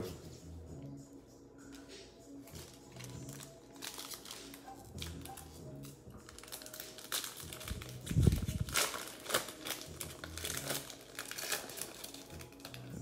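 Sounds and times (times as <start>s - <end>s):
wrapper crinkling and tearing: 2.5s - 13.0s.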